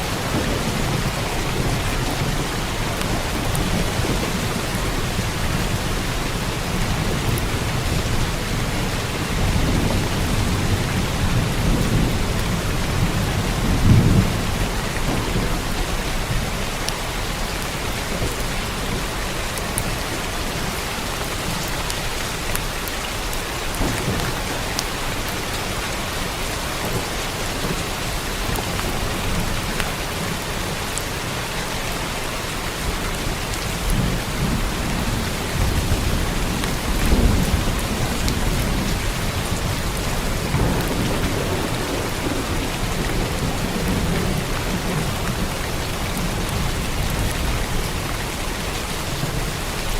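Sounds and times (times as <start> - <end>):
rolling thunder: 0.0 - 17.4, 23.7 - 30.7, 33.2 - 49.7
heavy rain on a roof: 0.0 - 49.9.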